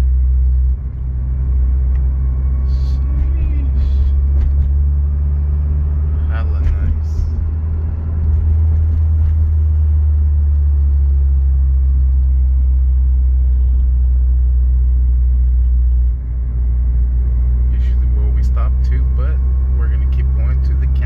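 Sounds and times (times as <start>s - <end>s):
car engine drone inside cabin: 0.0s - 21.0s
tyre and road noise: 0.0s - 21.0s.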